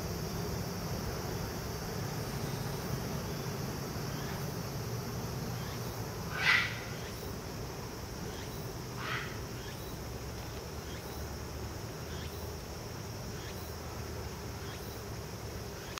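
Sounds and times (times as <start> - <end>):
insects chirping: 0.0 - 15.9.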